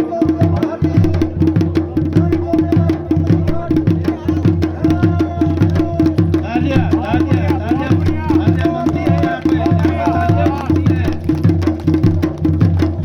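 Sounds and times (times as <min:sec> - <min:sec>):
fast drumming: 0:00.0 - 0:13.0.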